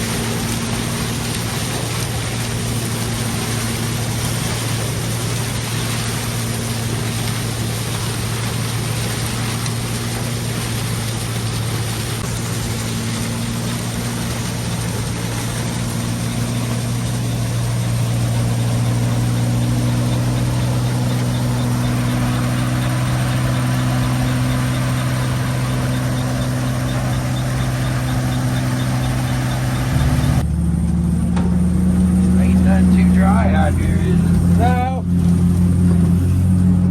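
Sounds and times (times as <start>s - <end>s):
combine engine hum: 0.0s - 36.9s.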